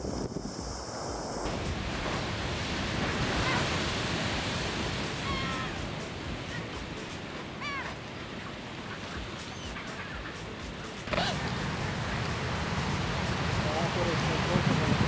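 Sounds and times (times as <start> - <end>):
surf breaking over rocks: 0.0 - 9.8, 10.7 - 15.0.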